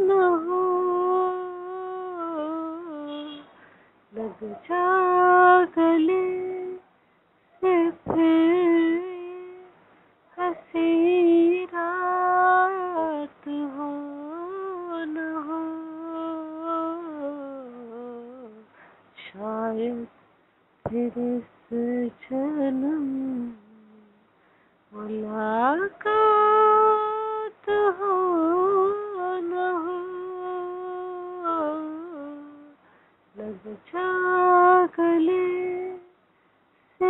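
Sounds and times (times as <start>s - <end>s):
woman singing unaccompanied: 0.0s - 6.9s, 7.6s - 20.2s, 20.8s - 24.3s, 24.9s - 36.2s.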